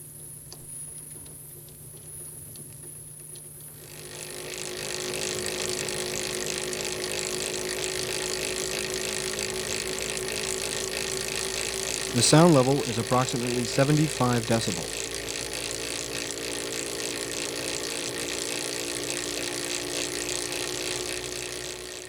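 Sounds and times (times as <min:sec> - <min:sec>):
roller chain running on sprockets: 0:03.8 - 0:22.0.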